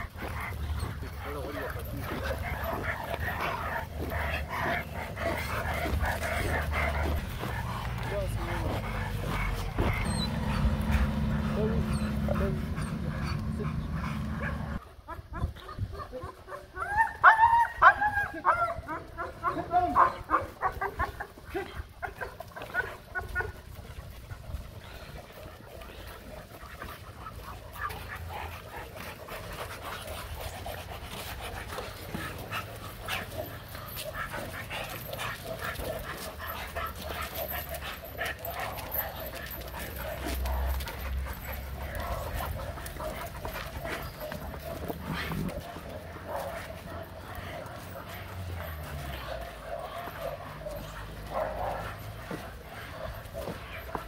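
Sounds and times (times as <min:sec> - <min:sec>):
dogs barking and yipping: 0:00.0 - 0:54.0.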